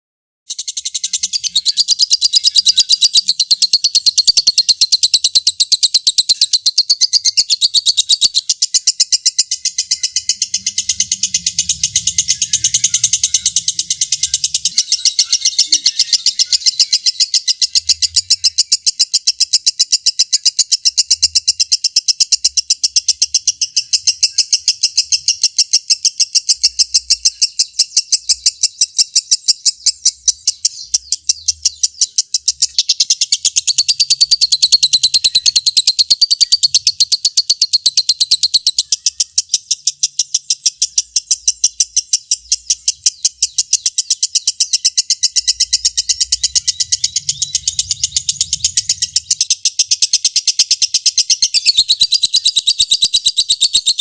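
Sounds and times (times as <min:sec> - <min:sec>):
lovebird chattering trill: 0:00.5 - 0:54.0.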